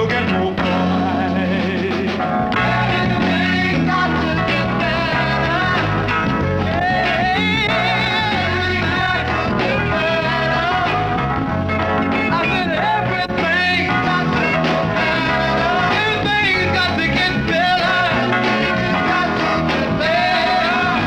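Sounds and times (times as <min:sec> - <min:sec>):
person singing: 0:00.0 - 0:11.4, 0:12.1 - 0:21.0
bass line: 0:00.0 - 0:21.0
upbeat soul rock song: 0:00.0 - 0:21.0.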